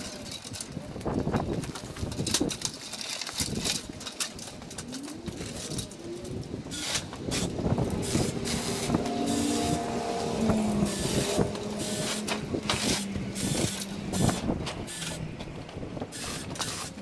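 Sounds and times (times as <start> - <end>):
mini chainsaw cutting branches: 2.4 - 17.0.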